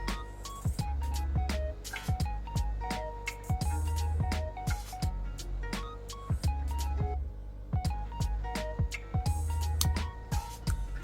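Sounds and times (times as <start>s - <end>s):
music with deep bass kick: 0.0s - 11.0s.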